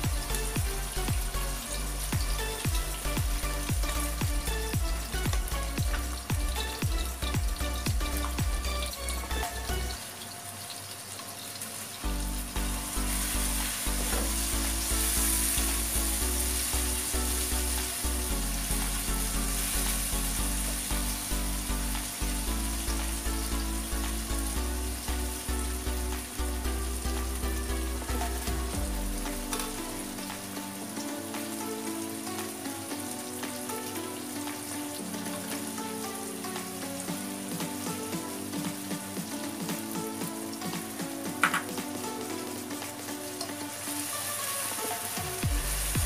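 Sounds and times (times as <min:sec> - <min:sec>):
background music with bass: 0:00.0 - 0:10.0, 0:12.0 - 0:43.6, 0:45.1 - 0:46.0
food sizzling in a wok: 0:00.0 - 0:46.0.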